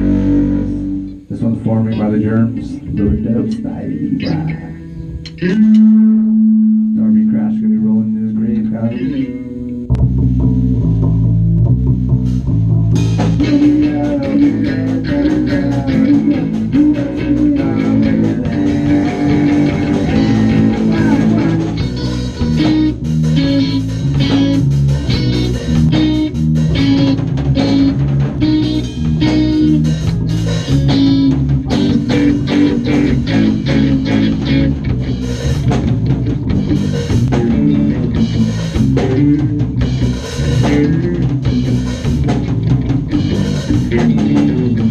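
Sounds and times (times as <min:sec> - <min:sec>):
drum kit: 0:00.0 - 0:44.9
electric bass: 0:00.0 - 0:44.9
electric guitar: 0:00.0 - 0:44.9.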